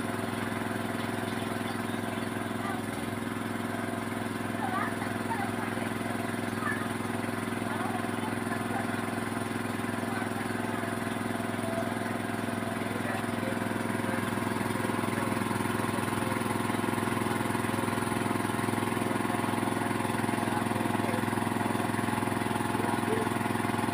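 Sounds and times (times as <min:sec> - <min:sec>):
engine running steadily: 0:00.0 - 0:23.9.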